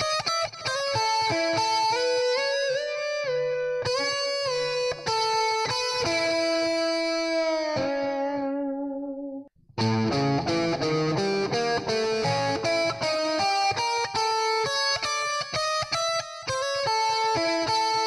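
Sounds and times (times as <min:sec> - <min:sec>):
electric guitar arpeggio riff: 0:00.0 - 0:18.0.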